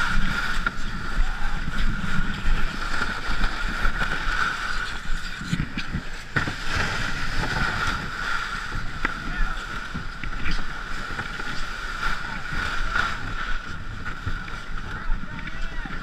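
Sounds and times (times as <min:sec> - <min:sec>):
hull scraping over snow and ice: 0:00.0 - 0:16.0.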